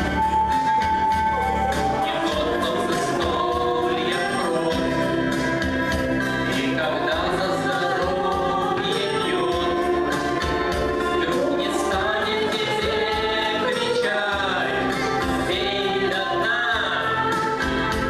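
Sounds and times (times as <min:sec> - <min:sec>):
backing track: 0:00.0 - 0:18.0
choir-like backing voices: 0:00.0 - 0:18.0
person singing into microphone: 0:01.9 - 0:18.0.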